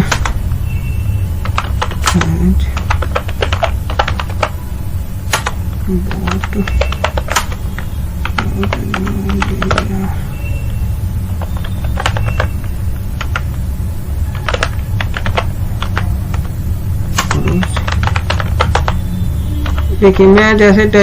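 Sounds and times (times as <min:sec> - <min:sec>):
keyboard keys clicking: 0:00.0 - 0:00.5, 0:01.3 - 0:04.6, 0:05.2 - 0:10.1, 0:11.3 - 0:20.8
steady low hum: 0:00.0 - 0:21.0.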